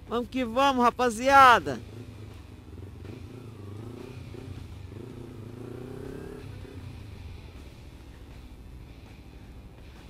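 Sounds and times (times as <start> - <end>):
motorcycle engine at low revs: 1.8 - 10.0.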